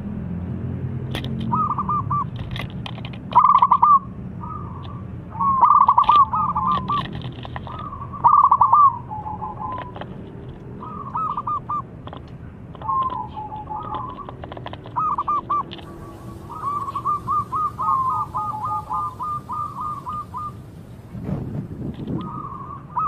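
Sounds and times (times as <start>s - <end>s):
dove cooing: 1.5s - 2.4s, 3.3s - 10.2s, 10.8s - 20.8s, 22.1s - 23.0s.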